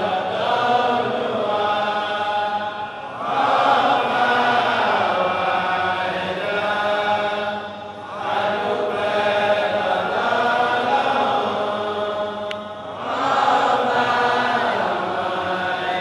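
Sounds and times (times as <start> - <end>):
men chanting together: 0.0 - 16.0.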